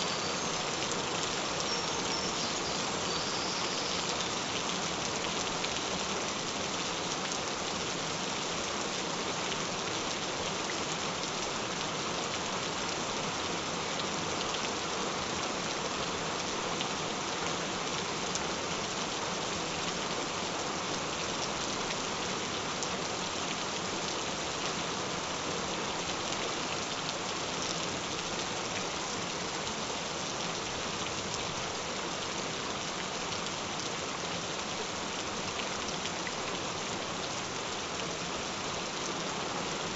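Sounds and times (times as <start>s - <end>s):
gentle rain: 0.0s - 39.9s.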